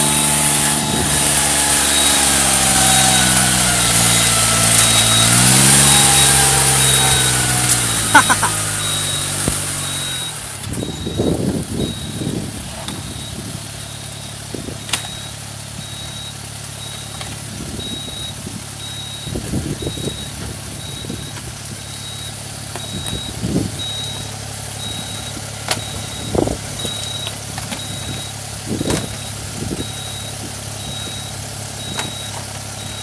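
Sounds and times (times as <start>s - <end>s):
low rumbles: 0.0s - 33.0s
machine engine running: 0.0s - 33.0s
electronic warning beeps: 0.1s - 33.0s.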